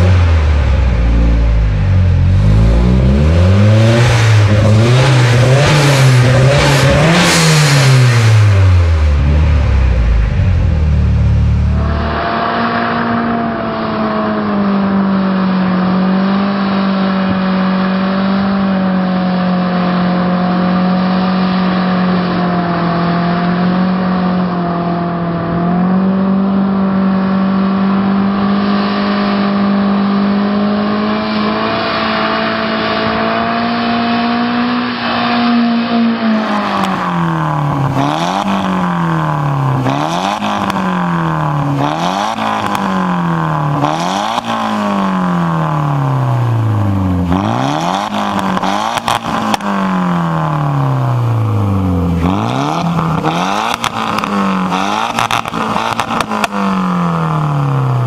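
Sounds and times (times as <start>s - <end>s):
car engine at high revs: 0.0s - 58.0s
car engine revving: 0.0s - 58.0s.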